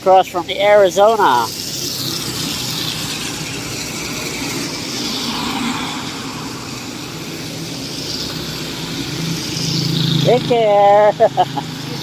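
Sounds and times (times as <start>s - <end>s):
road noise: 0.0s - 12.0s
vehicles passing: 0.0s - 12.0s.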